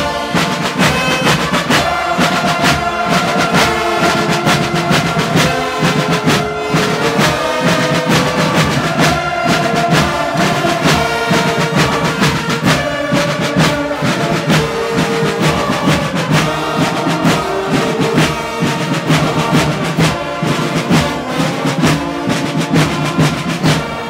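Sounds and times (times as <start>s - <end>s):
brass playing a tune: 0.0s - 24.0s
steady drum beat: 0.0s - 24.0s.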